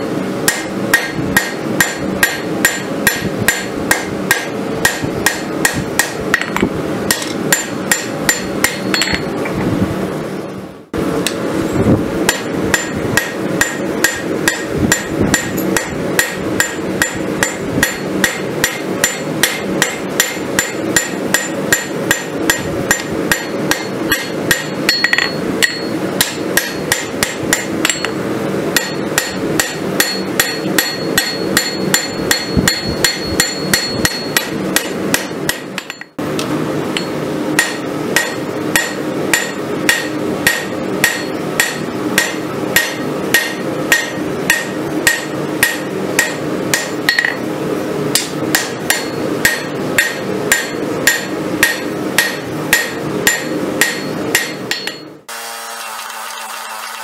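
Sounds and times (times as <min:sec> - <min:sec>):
hammer striking hot steel on anvil: 0:00.4 - 0:09.3, 0:11.2 - 0:11.4, 0:12.2 - 0:36.2, 0:36.9 - 0:47.5, 0:48.1 - 0:55.2.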